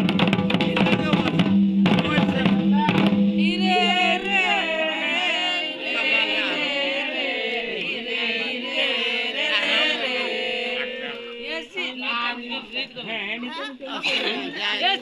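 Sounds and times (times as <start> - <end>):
men chanting together: 0.0 - 15.0
men calling out: 2.0 - 15.0.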